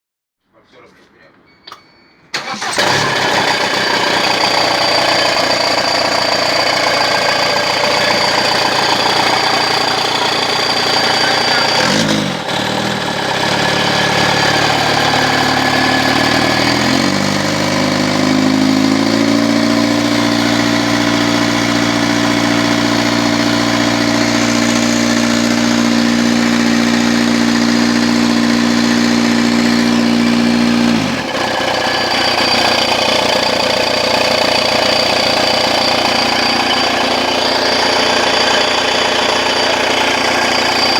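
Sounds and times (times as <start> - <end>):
diesel engine knocking: 2.6 - 40.9.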